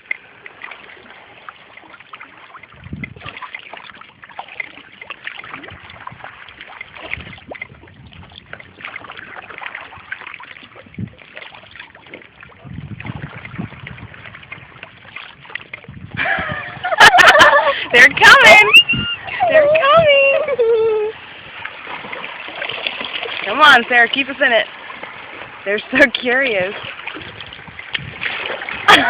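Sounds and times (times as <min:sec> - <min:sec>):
water lapping around kayak: 0:00.0 - 0:29.0
wind rumble on microphone: 0:02.4 - 0:04.4, 0:05.3 - 0:29.0.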